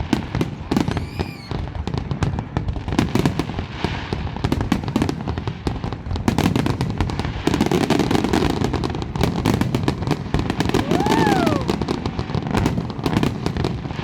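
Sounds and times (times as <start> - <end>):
fireworks popping and banging: 0.0 - 14.0.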